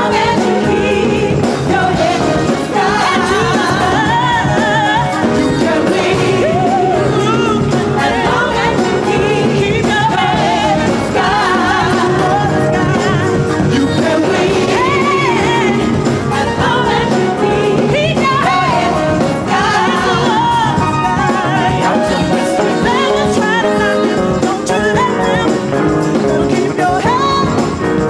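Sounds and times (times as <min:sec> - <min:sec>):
vocal group singing with band: 0:00.0 - 0:28.0.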